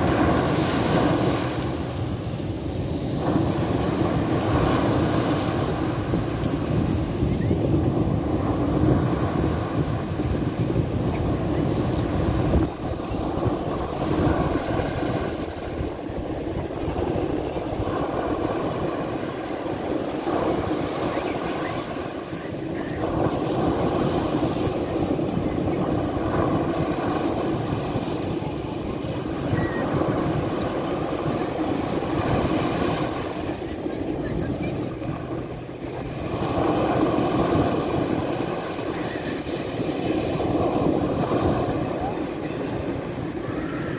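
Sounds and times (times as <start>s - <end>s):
small waves breaking on sand: 0.0s - 43.9s
wind buffeting microphone: 0.0s - 43.9s.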